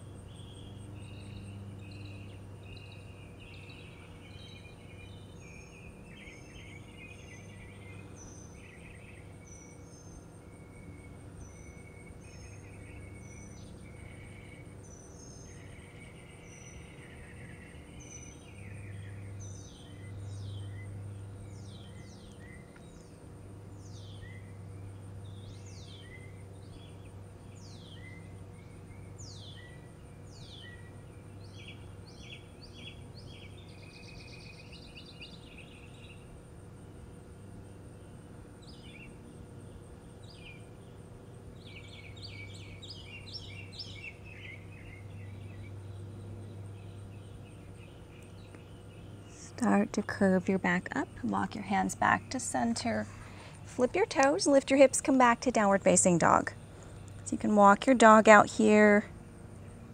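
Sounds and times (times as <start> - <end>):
birds chirping: 0.0 - 36.3, 38.6 - 59.9
steady low hum: 0.0 - 59.9.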